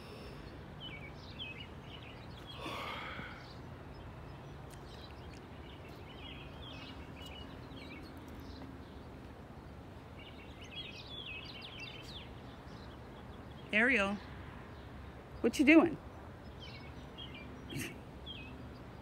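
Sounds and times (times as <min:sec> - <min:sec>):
low outdoor background noise: 0:00.0 - 0:19.0
small birds twittering: 0:00.0 - 0:19.0.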